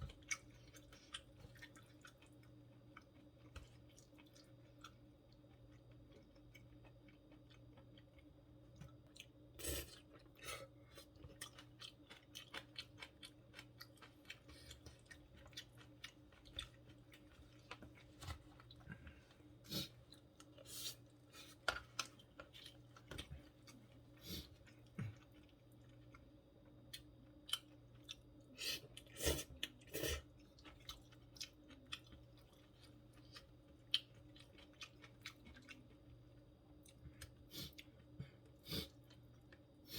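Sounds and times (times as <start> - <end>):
chewing food: 0.0 - 39.9
faint steady hum: 0.0 - 39.9.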